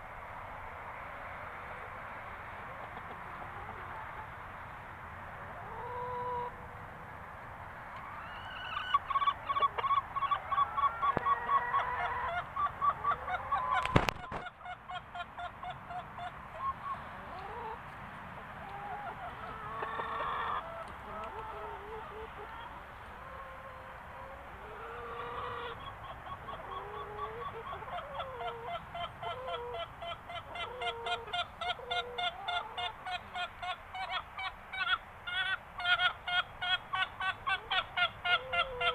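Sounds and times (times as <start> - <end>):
chickens clucking: 1.6 - 6.7, 7.9 - 38.9.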